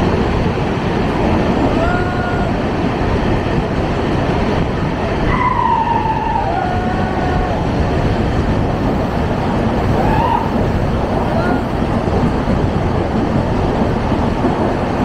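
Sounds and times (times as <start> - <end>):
train rumbling in tunnel: 0.0 - 15.0.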